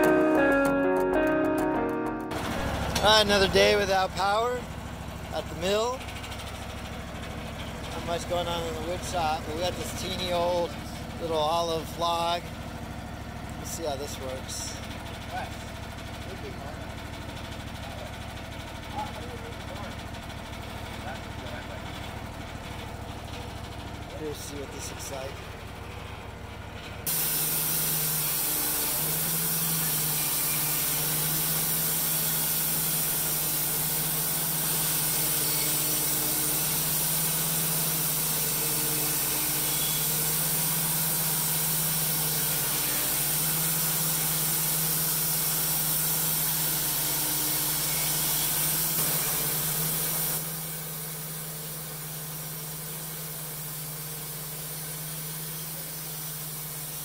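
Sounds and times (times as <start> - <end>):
band sawmill cutting log: 2.4 - 18.9, 27.1 - 57.0.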